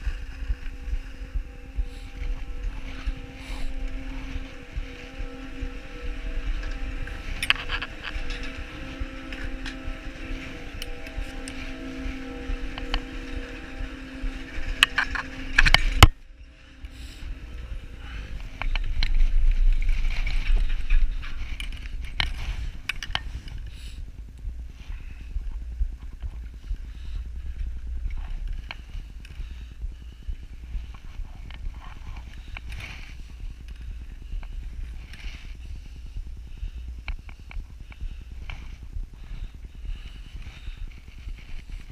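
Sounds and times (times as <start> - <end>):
chairlift low rumble: 0.0 - 41.9.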